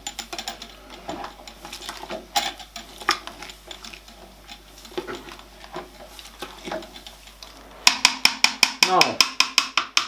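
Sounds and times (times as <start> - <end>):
mash being stirred in pot: 0.0 - 10.0
stirrer knocking against pot: 0.0 - 10.0.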